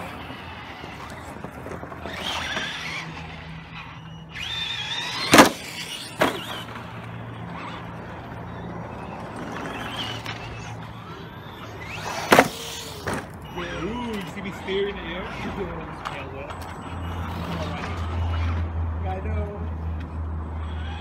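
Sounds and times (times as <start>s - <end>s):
electric motor whining: 0.0s - 18.7s.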